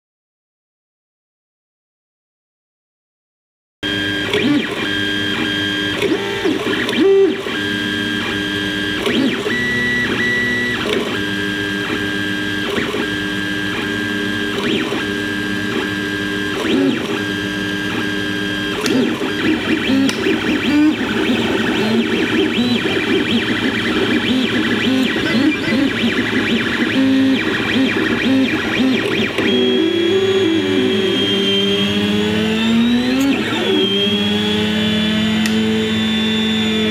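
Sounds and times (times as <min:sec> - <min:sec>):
stepper motors whining: 0:03.8 - 0:36.9.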